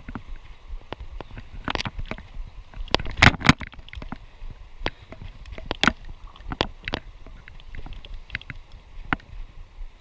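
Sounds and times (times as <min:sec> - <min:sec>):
water splashing in a stream: 0:00.0 - 0:09.5.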